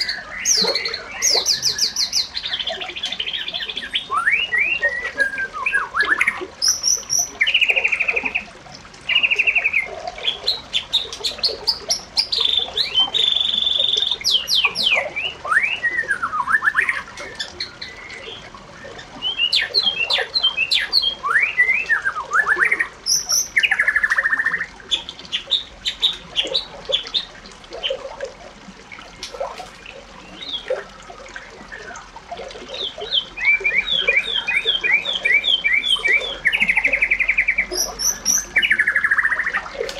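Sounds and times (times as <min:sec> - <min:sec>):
bird singing: 0:00.0 - 0:28.0, 0:30.2 - 0:31.0, 0:31.6 - 0:39.9.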